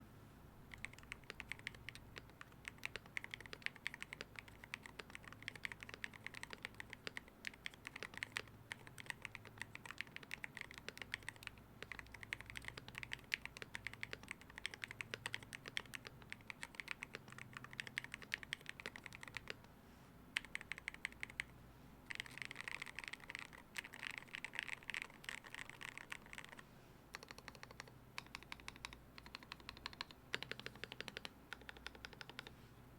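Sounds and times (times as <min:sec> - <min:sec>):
keyboard keystrokes: 0:00.7 - 0:19.6, 0:22.1 - 0:32.5.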